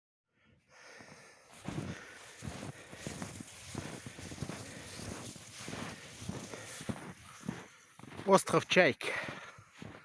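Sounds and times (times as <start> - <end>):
footsteps walking: 1.5 - 10.0.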